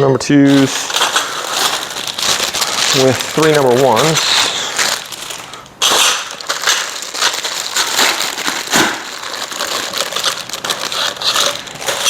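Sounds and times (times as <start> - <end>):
rustling of frame parts: 0.5 - 12.0.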